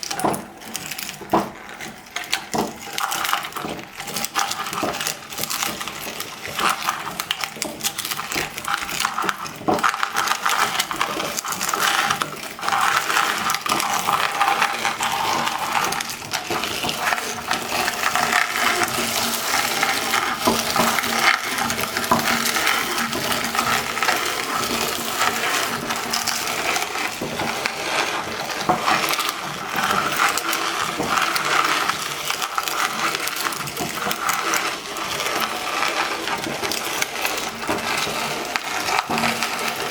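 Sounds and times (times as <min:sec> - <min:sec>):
meat grinder crushing chips: 0:00.0 - 0:39.9.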